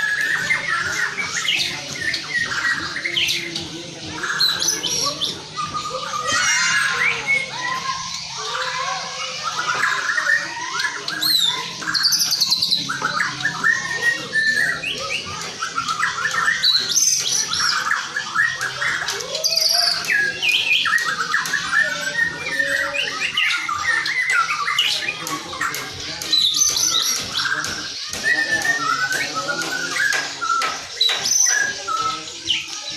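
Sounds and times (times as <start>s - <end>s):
songbird singing whistles and chirps: 0.0s - 32.9s.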